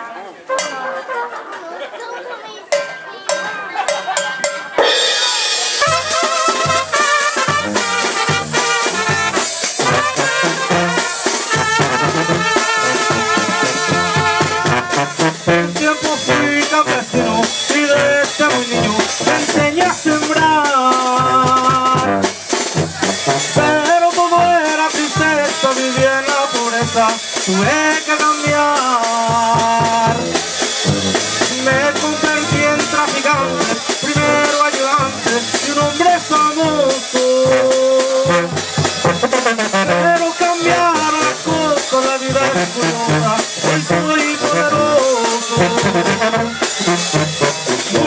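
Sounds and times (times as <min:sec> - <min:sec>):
trumpets playing melody: 0:00.4 - 0:01.6, 0:05.6 - 0:48.0
bass drum beat: 0:05.8 - 0:48.0
sousaphone bass line: 0:05.8 - 0:48.0.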